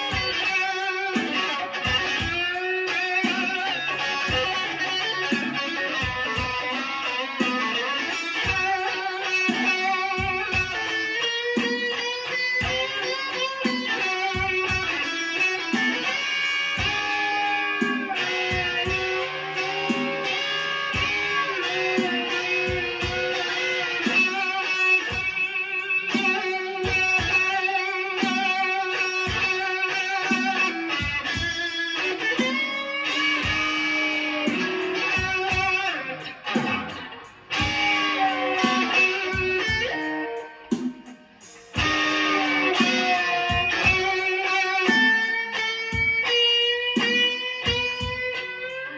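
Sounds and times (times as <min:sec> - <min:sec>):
electric guitar blues lead: 0:00.0 - 0:48.9.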